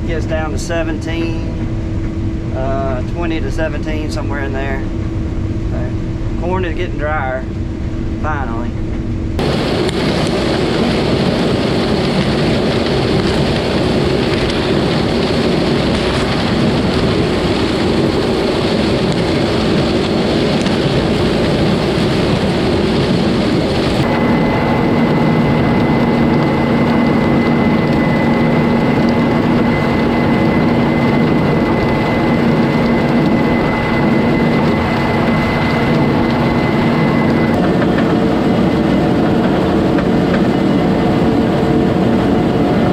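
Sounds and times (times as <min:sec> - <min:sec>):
combine harvester running: 0:00.0 - 0:42.9
steady high whine: 0:00.0 - 0:42.9.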